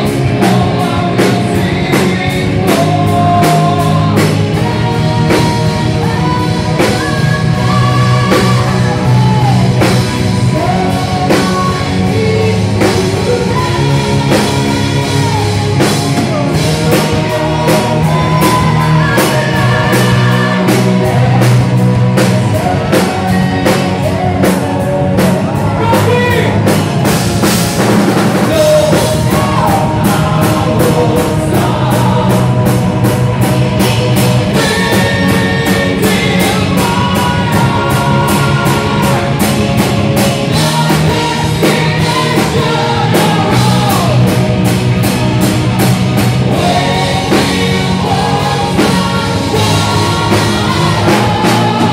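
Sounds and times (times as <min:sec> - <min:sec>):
person singing: 0:00.0 - 0:27.2, 0:28.3 - 0:45.5, 0:46.2 - 0:51.9
distorted electric guitars: 0:00.0 - 0:51.9
drum kit: 0:00.0 - 0:51.9.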